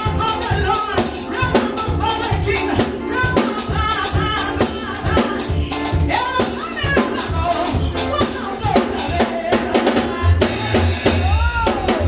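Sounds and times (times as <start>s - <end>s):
drum kit beat: 0.0s - 12.0s
people singing: 0.0s - 12.0s.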